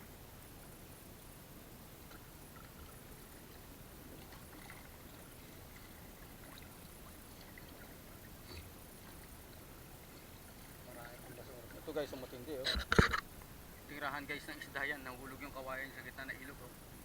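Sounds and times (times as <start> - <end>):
steady hiss: 0.0 - 17.0
river water lapping: 2.0 - 16.1.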